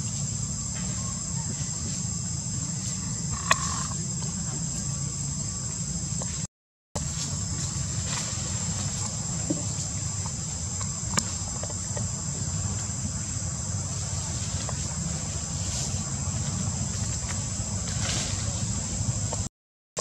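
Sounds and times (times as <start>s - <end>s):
high insect drone: 0.0s - 19.5s.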